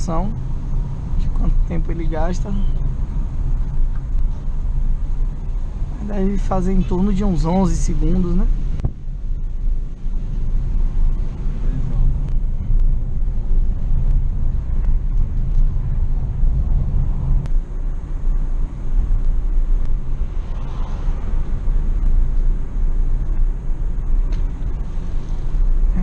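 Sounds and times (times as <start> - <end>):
car engine: 0.0 - 26.0.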